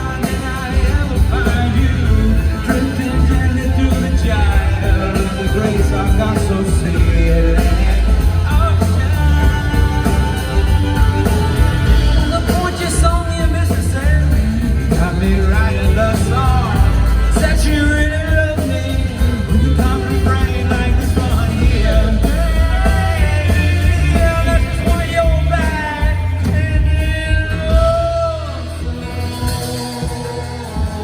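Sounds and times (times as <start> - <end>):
live folk-rock band playing: 0.0 - 31.0
strong bass: 0.0 - 31.0.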